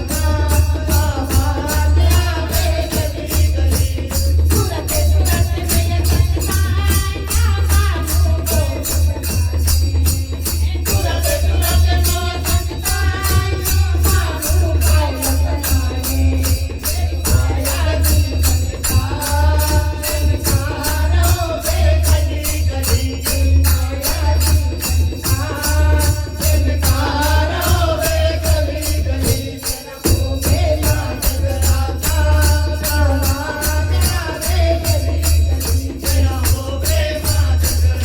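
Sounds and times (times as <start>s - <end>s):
jingling percussion beat: 0.0s - 38.0s.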